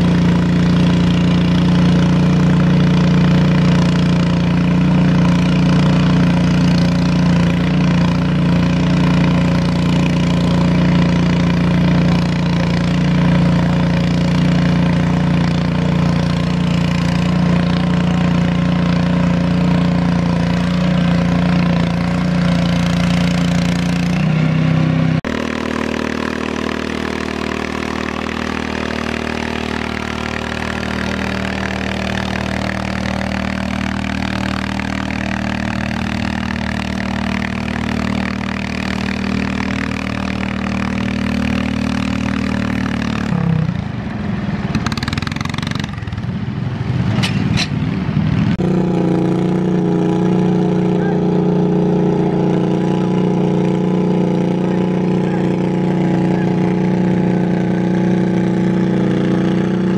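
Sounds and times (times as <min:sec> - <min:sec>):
garden tractor engine under load: 0:00.0 - 0:59.9.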